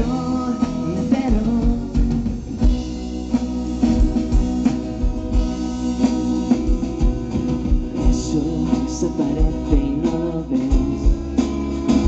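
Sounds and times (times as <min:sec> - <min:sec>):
drum beat: 0:00.0 - 0:12.0
guitars: 0:00.0 - 0:12.0.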